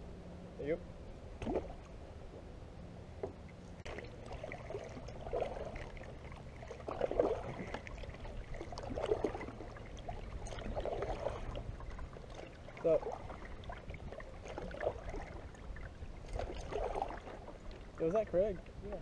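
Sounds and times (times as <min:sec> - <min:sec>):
kayak paddle strokes in water: 0:03.2 - 0:18.8.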